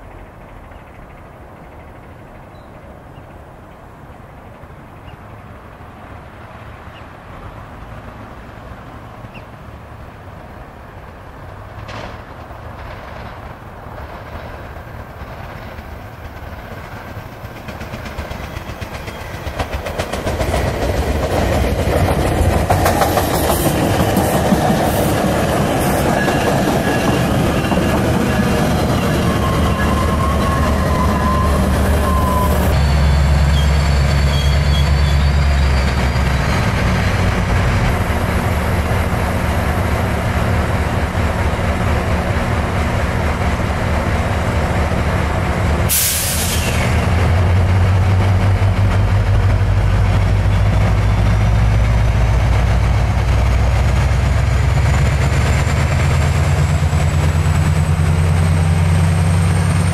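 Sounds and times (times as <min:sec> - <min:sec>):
rail and wheel rush: 0:00.0 - 0:59.9
diesel locomotive rumble: 0:07.4 - 0:59.9
train wheels clacking on rails: 0:11.1 - 0:59.9.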